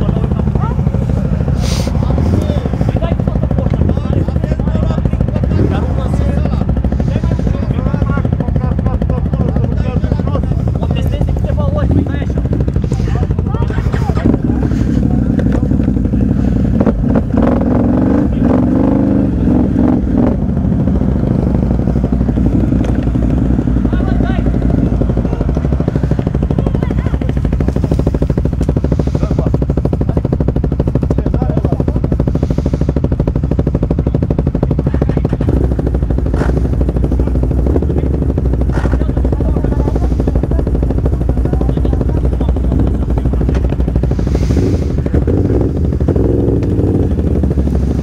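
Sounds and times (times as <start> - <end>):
atv engine running: 0.0 - 48.0.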